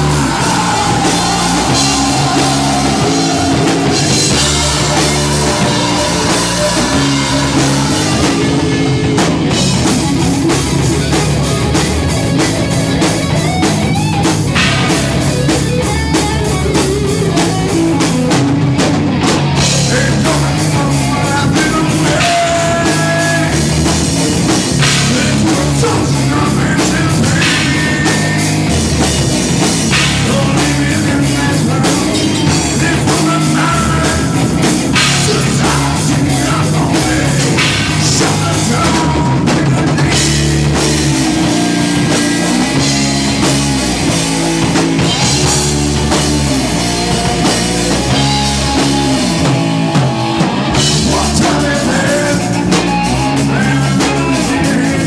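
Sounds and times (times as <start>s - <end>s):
drum kit: 0.0s - 55.0s
guitar: 0.0s - 55.0s
live rock band: 0.0s - 55.0s.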